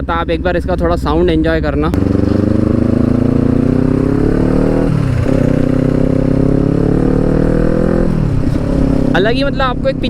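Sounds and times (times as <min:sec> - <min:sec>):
motorcycle engine accelerating: 0:01.9 - 0:10.0.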